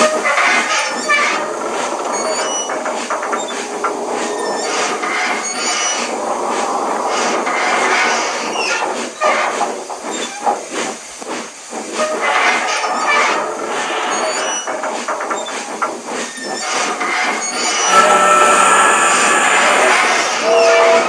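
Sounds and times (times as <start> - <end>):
steam hissing: 0.0 - 21.0
steam locomotive puffs: 0.0 - 21.0.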